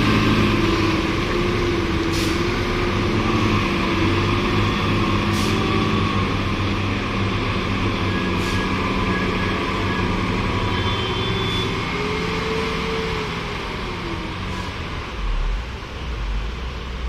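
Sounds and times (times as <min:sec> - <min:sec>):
truck diesel engine running: 0:00.0 - 0:16.4
road noise: 0:00.0 - 0:17.0.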